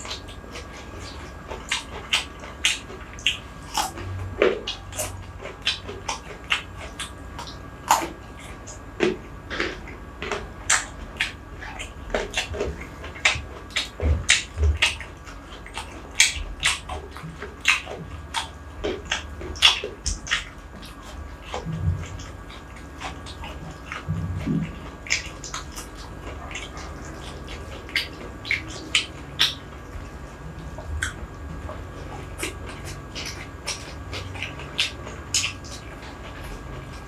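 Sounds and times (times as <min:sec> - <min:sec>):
wet chewing mouth clicks: 0:00.0 - 0:37.0.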